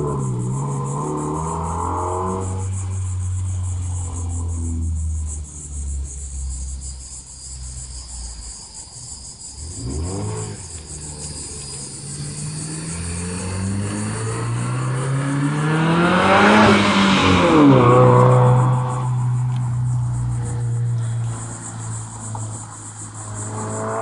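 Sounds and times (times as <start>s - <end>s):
car engine accelerating past: 0.0s - 6.6s, 9.6s - 24.0s.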